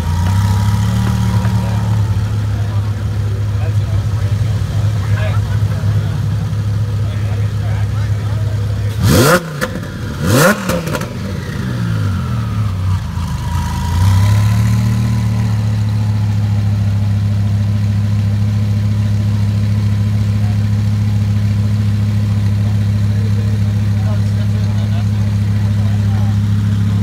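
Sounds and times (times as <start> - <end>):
car engine revving down to idle: 0.0 - 27.0.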